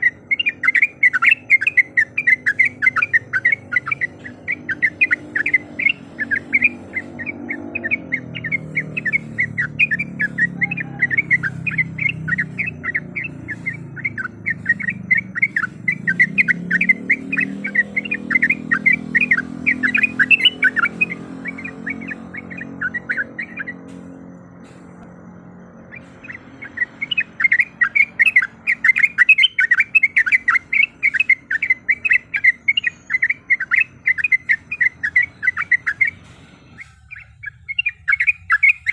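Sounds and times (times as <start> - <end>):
bird chattering calls: 0.0 - 25.0, 25.8 - 38.9.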